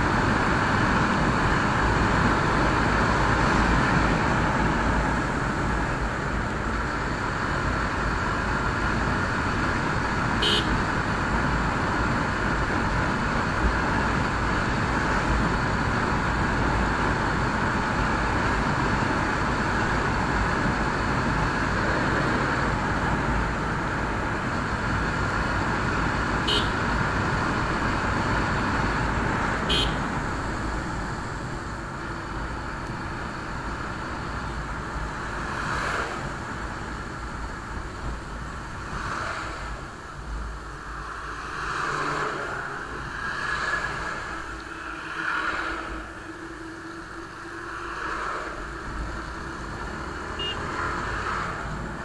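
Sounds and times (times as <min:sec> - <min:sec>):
motorcycle engine and road noise: 0:00.0 - 0:52.0.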